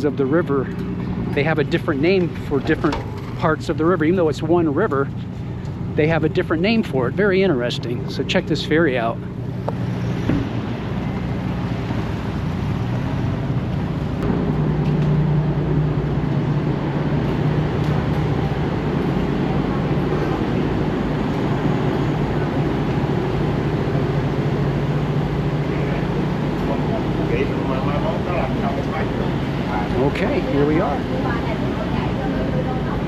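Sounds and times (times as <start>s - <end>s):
ferry engine humming: 0.0s - 33.0s.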